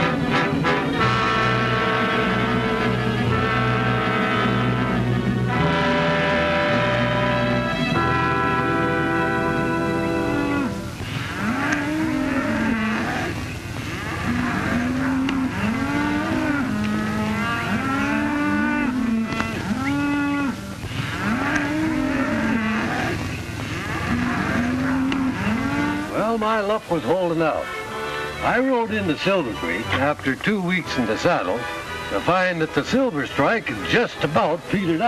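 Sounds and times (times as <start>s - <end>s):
cattle mooing: 0.0s - 28.6s
music: 0.0s - 35.0s.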